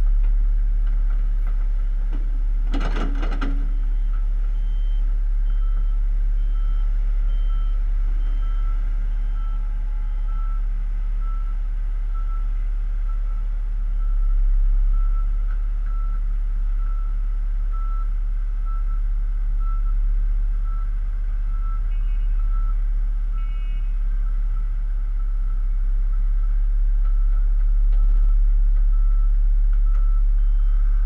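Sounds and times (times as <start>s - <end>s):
diesel engines rumbling: 0.0s - 31.0s
reversing alarm beeping: 2.8s - 19.0s, 19.6s - 20.0s, 20.6s - 20.9s, 21.5s - 31.0s.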